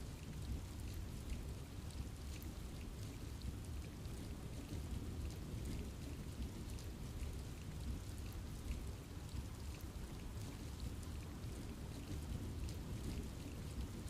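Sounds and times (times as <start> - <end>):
rain pattering in a forest: 0.0 - 14.0.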